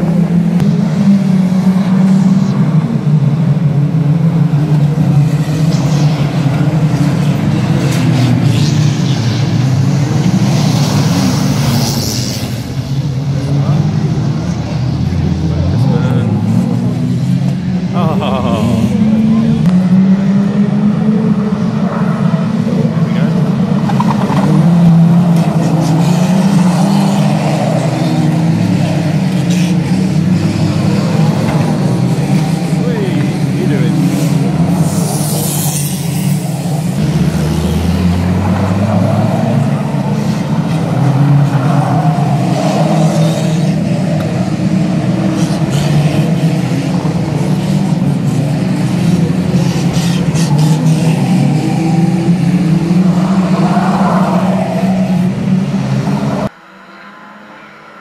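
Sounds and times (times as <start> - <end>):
racing car engines revving: 0.0 - 58.0.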